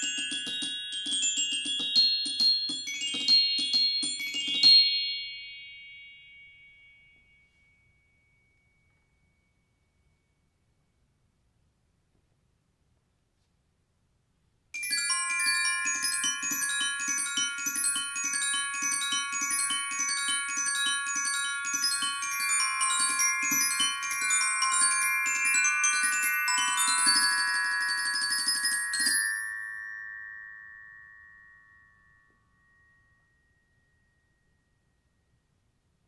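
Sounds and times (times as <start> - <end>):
glockenspiel notes ringing: 0.0 - 11.0, 14.8 - 35.6.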